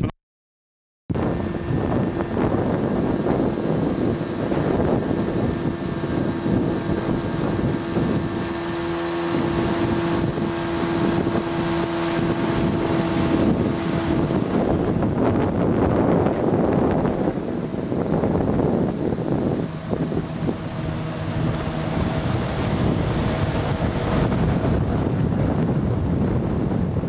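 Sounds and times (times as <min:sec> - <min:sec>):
boat motor running: 0:01.1 - 0:27.0
steady hum: 0:01.1 - 0:27.0
wind buffeting microphone: 0:01.1 - 0:27.0.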